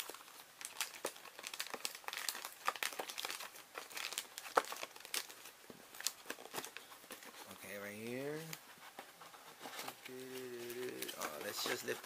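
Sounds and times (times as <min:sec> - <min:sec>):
plastic bag crinkling: 0:00.0 - 0:08.6, 0:09.8 - 0:12.0.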